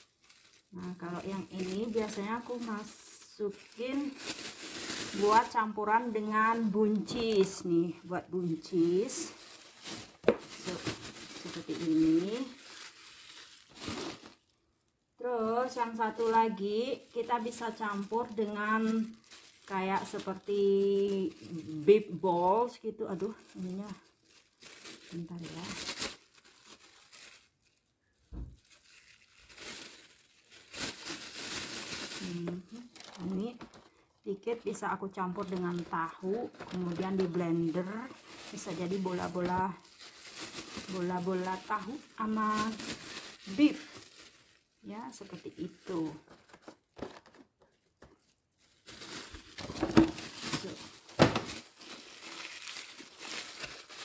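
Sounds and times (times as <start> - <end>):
plastic bag crinkling: 0.0 - 14.8, 15.4 - 54.0.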